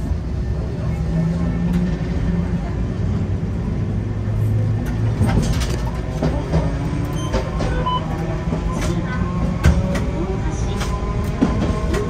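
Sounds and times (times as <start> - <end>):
streetcar hum: 0.0 - 12.0.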